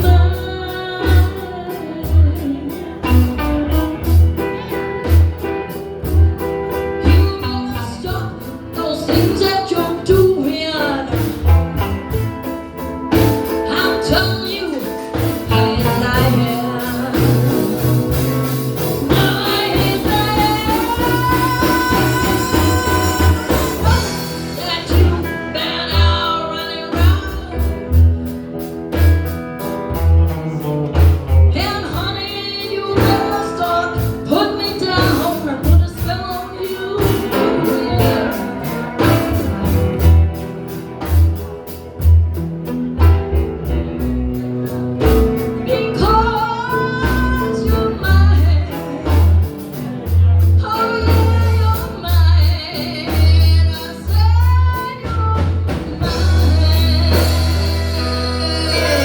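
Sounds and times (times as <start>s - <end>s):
person singing: 0.0s - 28.3s, 31.4s - 41.2s, 45.0s - 59.0s
live blues band playing: 0.0s - 59.0s.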